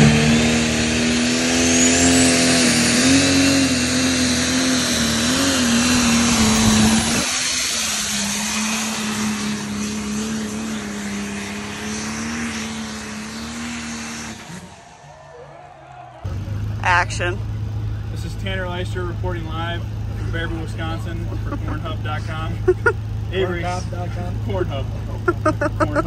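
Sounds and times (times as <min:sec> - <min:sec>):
pulling tractor engine roaring: 0:00.0 - 0:15.2, 0:16.3 - 0:26.0.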